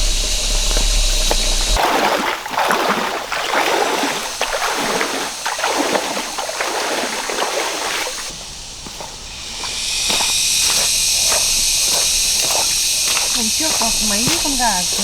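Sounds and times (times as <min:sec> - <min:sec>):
crunching footsteps: 0:00.0 - 0:01.9, 0:03.6 - 0:15.0.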